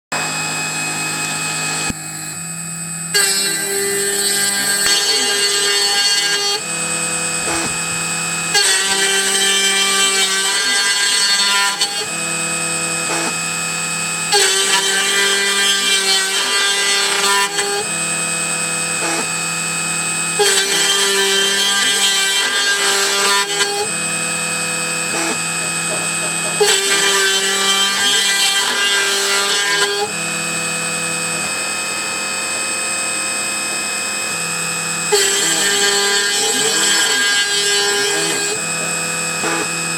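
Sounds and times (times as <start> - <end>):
bit milling rough cutting: 0.1 - 39.9
cnc spindle whine: 0.1 - 39.9.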